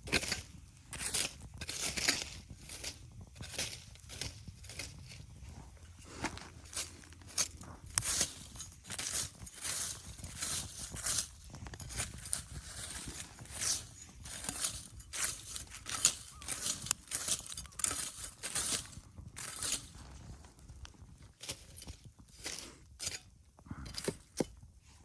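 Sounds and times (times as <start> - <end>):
footsteps crunching: 0.0 - 25.0.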